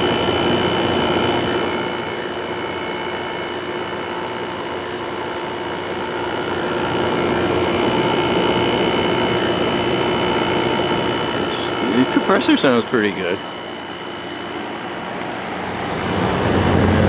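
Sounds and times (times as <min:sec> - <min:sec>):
air conditioner humming: 0:00.0 - 0:17.0
fan airflow noise: 0:00.0 - 0:17.0.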